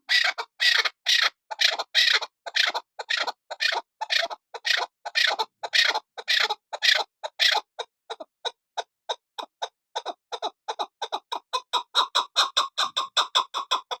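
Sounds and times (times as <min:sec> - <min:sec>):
partridge clucking calls: 0:00.0 - 0:14.0.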